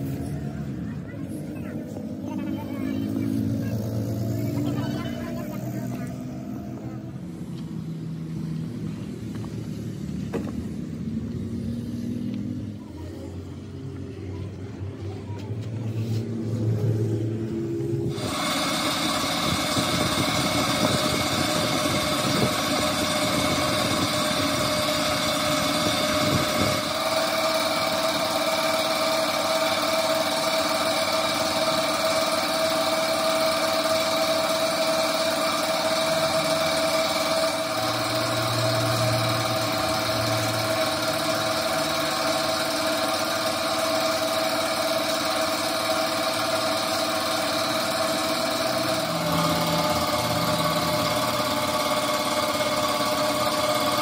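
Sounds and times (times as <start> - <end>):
machine humming: 0.0 - 12.3, 16.2 - 54.0
machine whining tone: 0.0 - 54.0.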